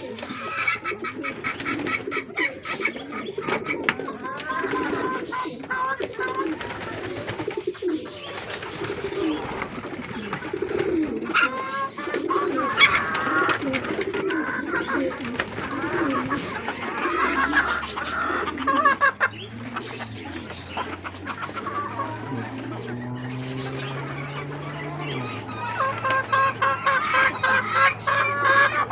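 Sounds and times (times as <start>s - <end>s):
pigeons cooing: 0.0s - 28.9s.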